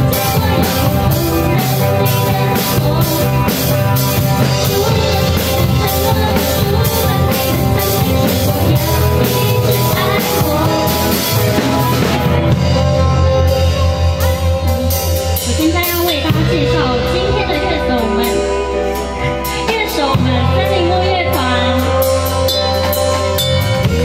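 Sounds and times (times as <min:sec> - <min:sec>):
live pop-rock band: 0:00.0 - 0:24.0.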